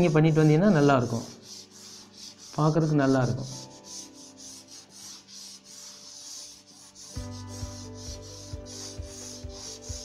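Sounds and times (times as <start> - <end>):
chalk rubbing on a chalkboard: 0.0 - 10.0.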